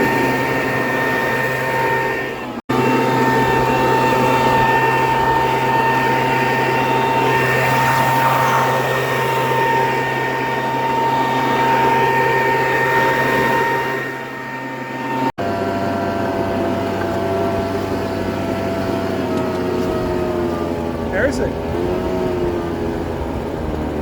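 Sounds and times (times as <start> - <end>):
leaf blower running: 0.0 - 24.0.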